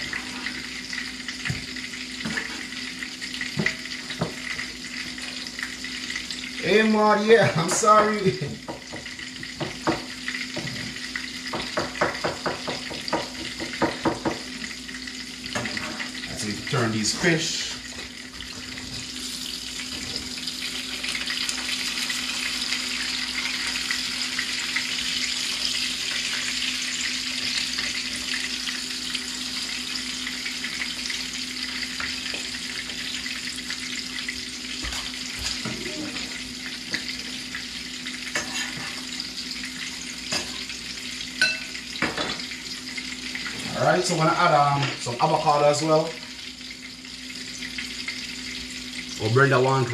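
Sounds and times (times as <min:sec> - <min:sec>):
fish sizzling in oil: 0:00.0 - 0:49.9.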